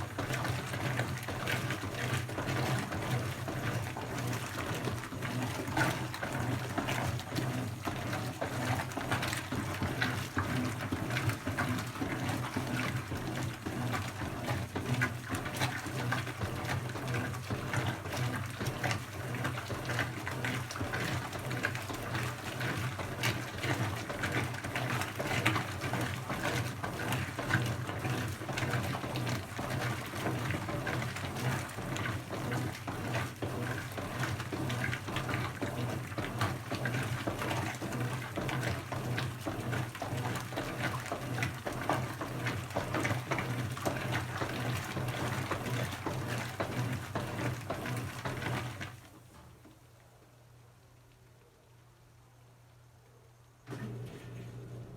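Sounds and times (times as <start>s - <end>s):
washing machine motor hum: 0.0s - 50.2s, 53.6s - 54.9s
water sloshing in washing machine: 0.0s - 50.2s, 53.6s - 54.9s.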